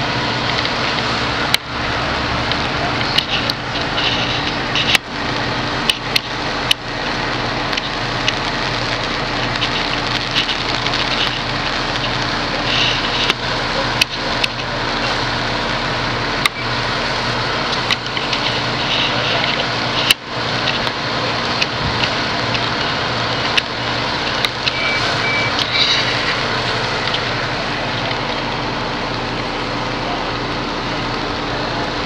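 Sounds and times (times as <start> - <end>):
fire truck engines running: 0.0 - 32.0.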